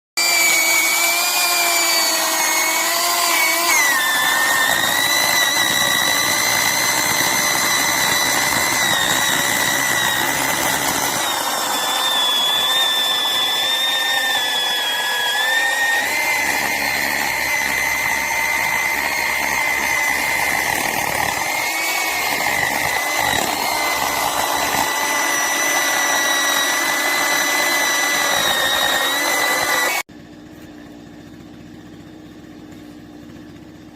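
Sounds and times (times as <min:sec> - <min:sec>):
chainsaw cutting wood: 0:00.2 - 0:30.1.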